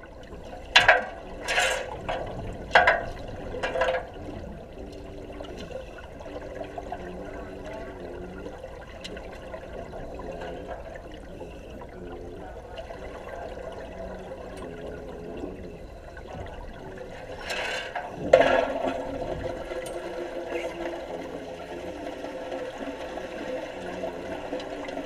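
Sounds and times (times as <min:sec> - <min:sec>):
water bubbling underwater: 0:00.0 - 0:25.0.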